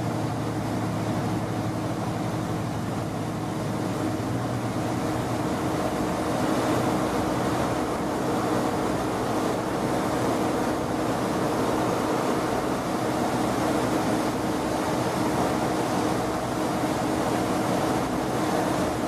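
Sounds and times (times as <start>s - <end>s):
train running gear rumble and hiss: 0.0s - 19.0s.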